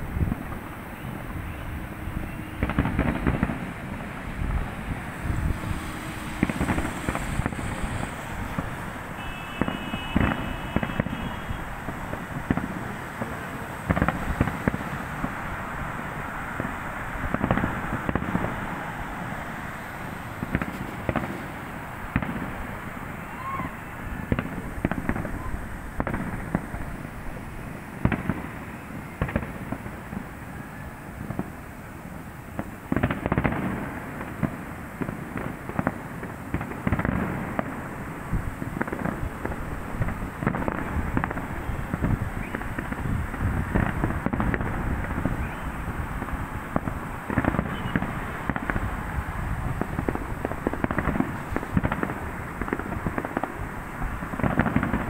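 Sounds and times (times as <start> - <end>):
fireworks crackling and booming: 0.0 - 55.0.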